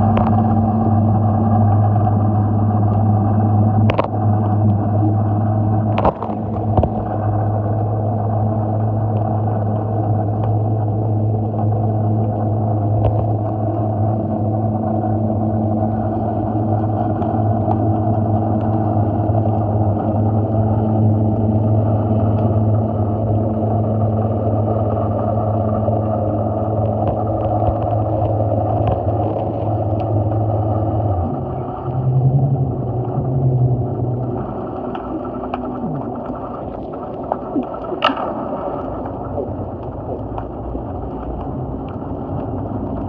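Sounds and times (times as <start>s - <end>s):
low motor hum with tones: 0.0s - 43.0s.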